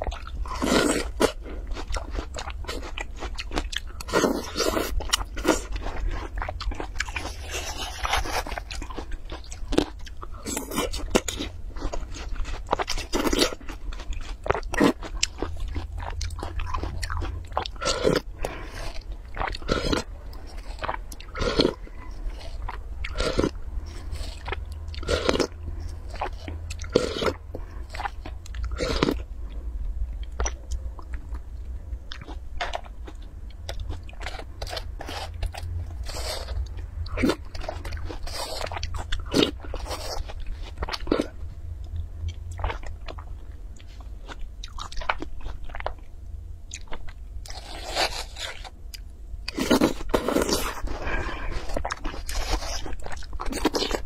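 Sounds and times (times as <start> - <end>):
wet crunching and chewing: 0.0 - 29.6, 30.2 - 54.0.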